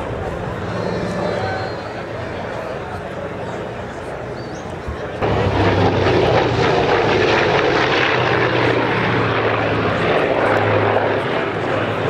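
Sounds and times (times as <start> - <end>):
aircraft engine drone overhead: 0.0 - 12.0.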